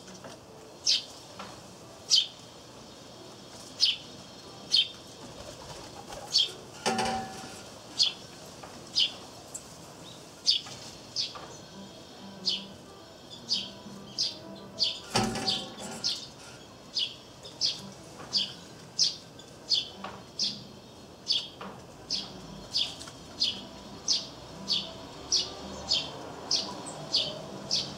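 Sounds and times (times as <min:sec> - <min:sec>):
sparrow chirping: 0:00.8 - 0:01.2, 0:02.1 - 0:05.0, 0:06.3 - 0:06.6, 0:07.4 - 0:08.3, 0:08.9 - 0:27.9.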